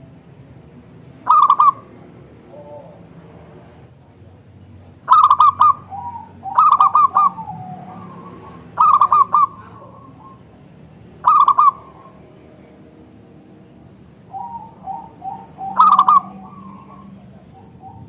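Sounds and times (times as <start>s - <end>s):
dove cooing: 1.2s - 3.8s, 5.0s - 18.0s.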